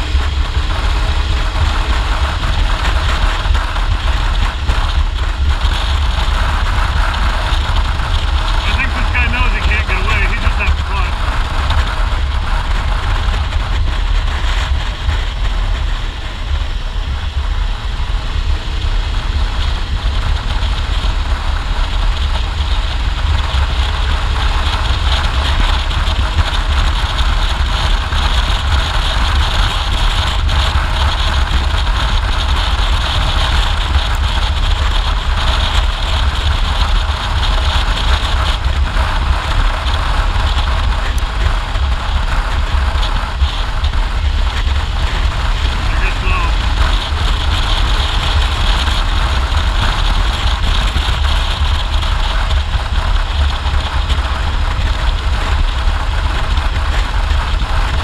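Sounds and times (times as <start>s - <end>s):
motorcycle engine running: 0.0s - 58.0s
wind rumbling on microphone: 0.0s - 58.0s.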